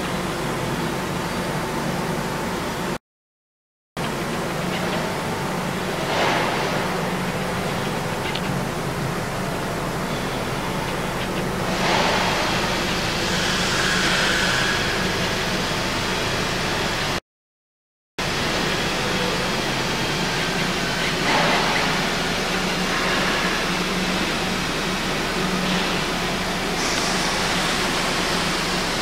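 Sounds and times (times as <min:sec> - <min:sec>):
welding machine hissing and humming: 0:04.0 - 0:17.2, 0:18.2 - 0:29.0.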